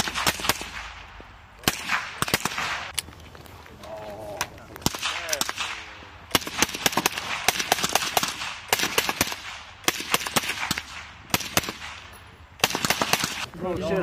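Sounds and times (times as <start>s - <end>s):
rifles firing: 0.0s - 3.0s, 4.8s - 13.5s.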